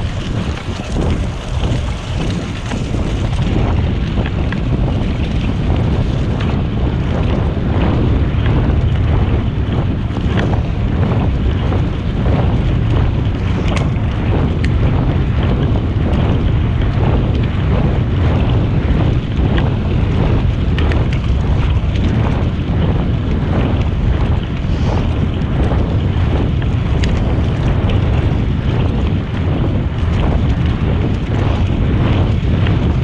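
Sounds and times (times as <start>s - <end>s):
bicycle tyres rolling on trail: 0.0s - 33.0s
wind buffeting microphone: 0.0s - 33.0s.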